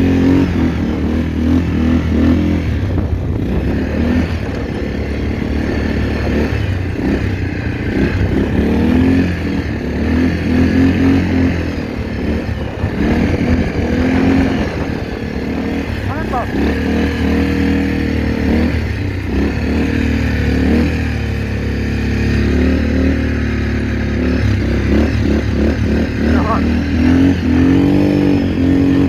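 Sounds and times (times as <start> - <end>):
quad bike engine revving: 0.0 - 29.0.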